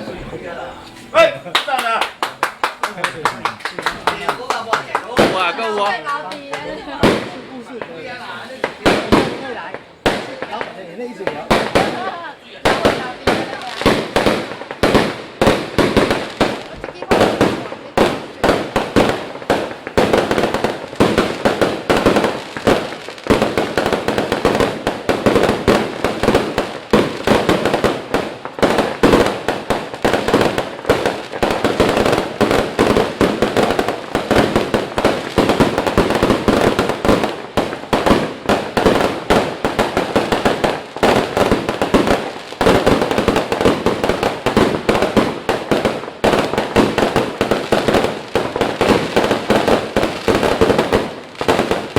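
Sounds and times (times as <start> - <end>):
fireworks bangs and pops: 1.0 - 51.9.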